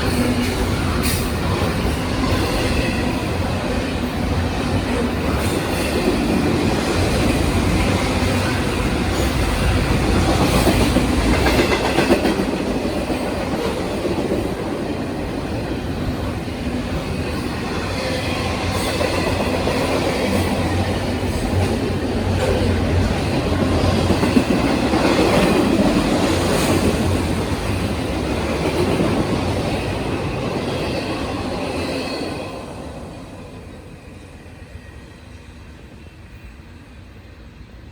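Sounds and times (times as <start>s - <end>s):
freight train rolling past: 0.0s - 37.9s.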